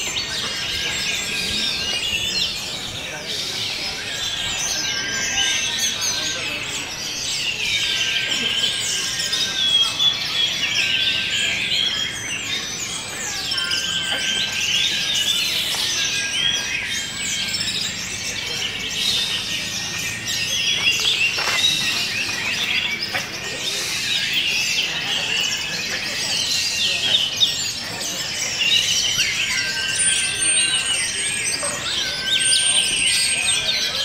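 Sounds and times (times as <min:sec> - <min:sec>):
thrushes singing: 0:00.0 - 0:34.0.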